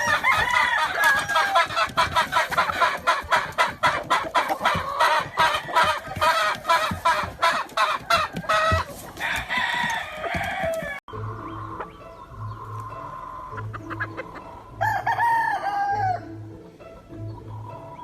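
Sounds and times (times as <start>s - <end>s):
roosters crowing and clucking: 0.0s - 18.0s.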